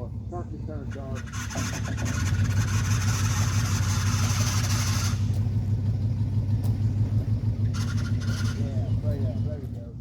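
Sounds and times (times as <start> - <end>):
pickup truck engine rumbling: 0.0 - 10.0.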